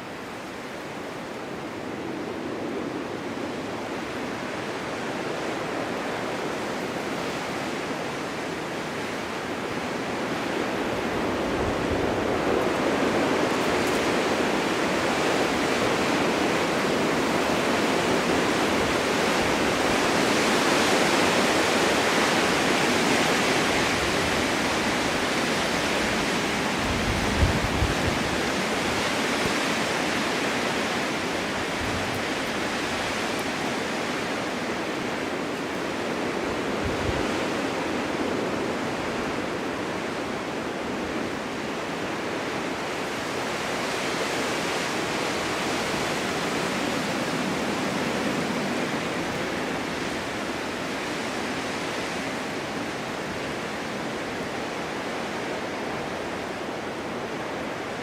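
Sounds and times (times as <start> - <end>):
snowstorm wind blowing: 0.0 - 58.0
wind gusts buffeting microphone: 0.0 - 58.0.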